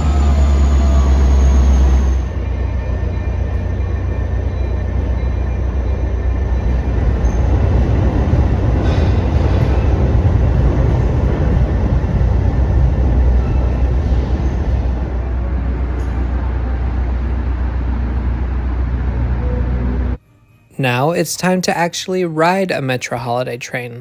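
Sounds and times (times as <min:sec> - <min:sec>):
diesel train low rumble: 0:00.0 - 0:20.2.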